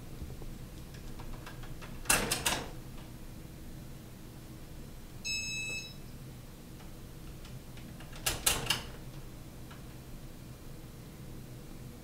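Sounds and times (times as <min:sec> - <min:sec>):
ceiling fans humming: 0:00.0 - 0:12.0.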